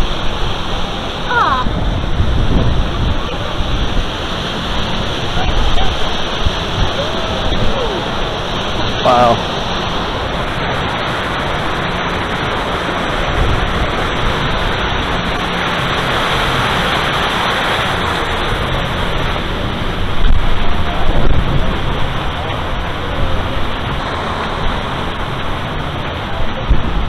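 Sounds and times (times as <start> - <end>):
loud steady rushing noise: 0.0 - 27.0
wind buffeting microphone: 0.0 - 27.0.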